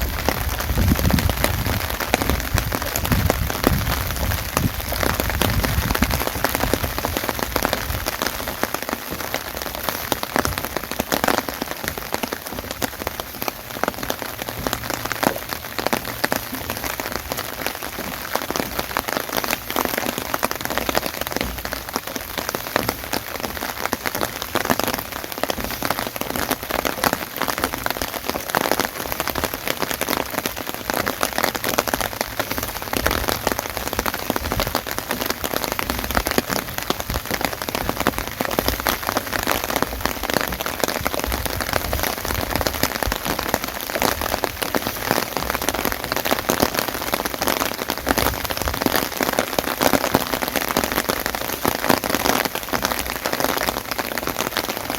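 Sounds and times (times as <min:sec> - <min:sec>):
rain falling: 0:00.0 - 0:54.9
raindrops hitting near microphone: 0:00.0 - 0:54.9.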